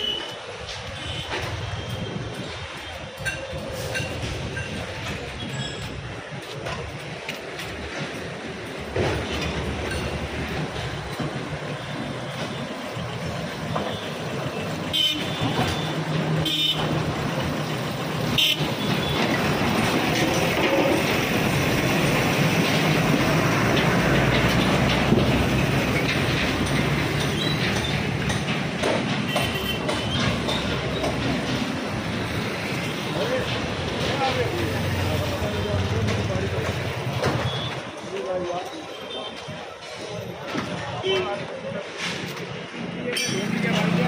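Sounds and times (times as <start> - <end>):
train passing rumble: 0.0 - 44.0.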